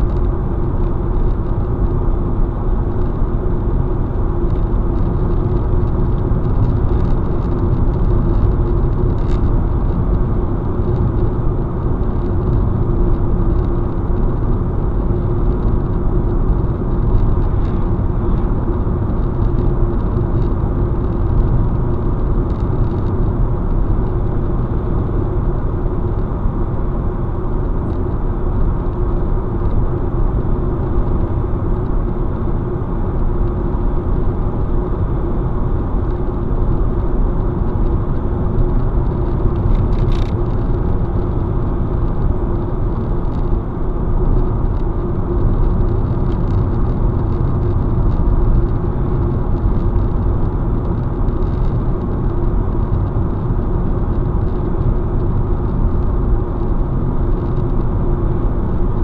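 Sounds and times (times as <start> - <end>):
car engine hum: 0.0 - 59.0
tyres rumbling on asphalt: 0.0 - 59.0.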